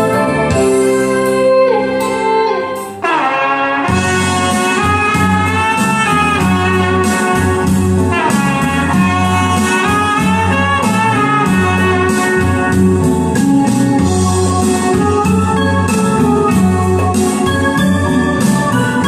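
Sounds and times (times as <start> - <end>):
instrumental music over loudspeakers: 0.0 - 19.0.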